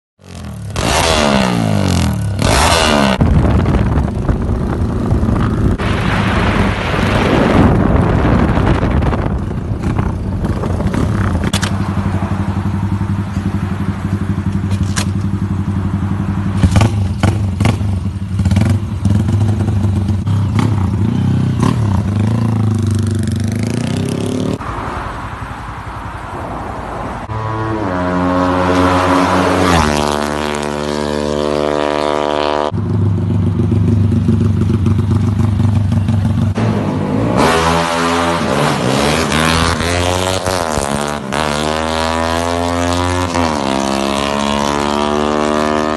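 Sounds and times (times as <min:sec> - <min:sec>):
motorcycle engine revving: 0:00.2 - 0:05.9, 0:08.0 - 0:24.7, 0:27.2 - 0:45.9.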